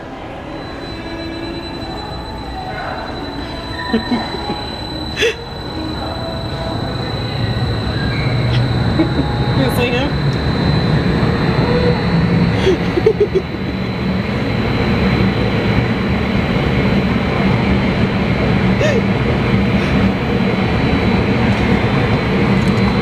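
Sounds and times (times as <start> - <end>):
blower fans rushing air: 0.0 - 23.0.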